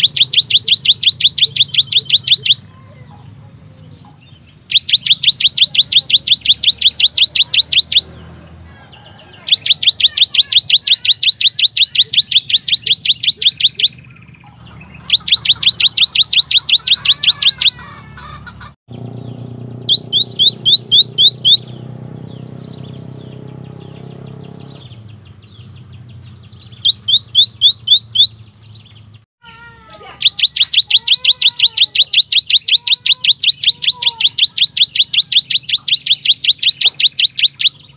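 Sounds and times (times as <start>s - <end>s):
bird singing high repeated notes: 0.0s - 2.7s, 3.9s - 8.2s, 9.5s - 17.8s, 18.9s - 29.2s, 30.2s - 37.9s.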